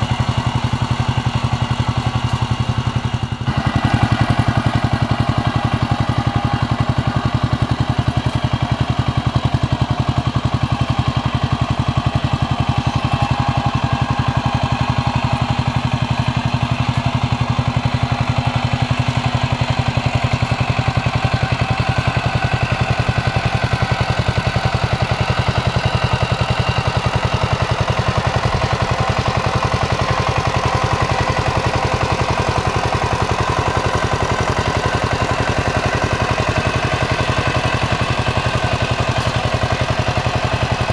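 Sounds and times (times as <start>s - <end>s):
diesel engine running: 0.0s - 40.9s
wheels churning through mud: 0.0s - 40.9s.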